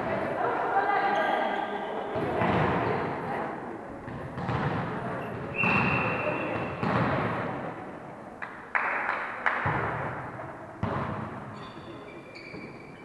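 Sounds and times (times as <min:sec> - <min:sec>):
volleyball hits echoing in hall: 0:01.5 - 0:13.0.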